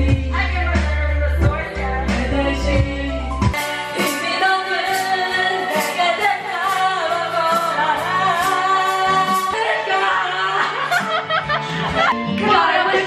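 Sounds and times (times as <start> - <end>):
people singing into microphones: 0.0 - 13.0
pop backing track: 0.0 - 13.0.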